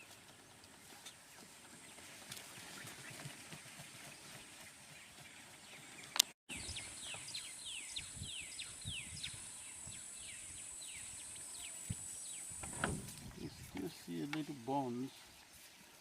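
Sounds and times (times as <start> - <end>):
birds calling: 1.0 - 16.0.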